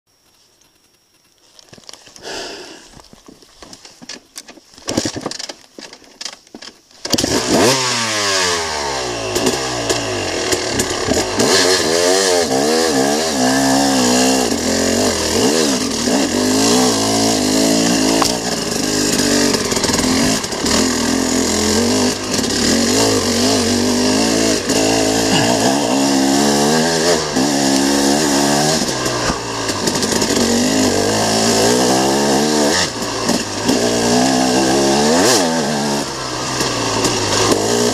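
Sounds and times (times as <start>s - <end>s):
dirt bike engine revving: 7.1s - 37.9s.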